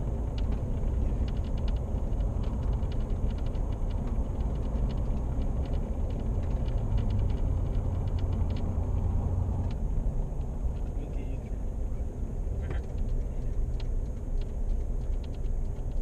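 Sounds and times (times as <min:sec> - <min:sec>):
engine and road rumble: 0:00.0 - 0:16.0
faint light rattles: 0:00.0 - 0:16.0.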